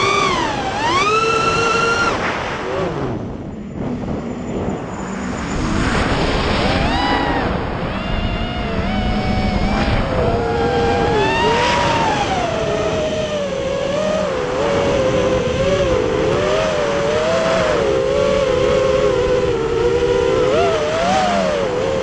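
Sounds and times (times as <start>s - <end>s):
drone motors whining: 0.0s - 22.0s
wind and propeller rush: 0.0s - 22.0s.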